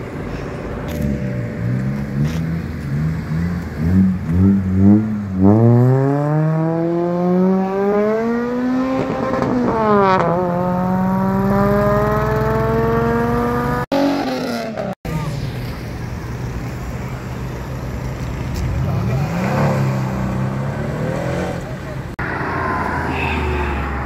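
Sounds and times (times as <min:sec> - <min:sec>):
car engine revving and accelerating: 0:00.9 - 0:15.0, 0:17.9 - 0:24.0.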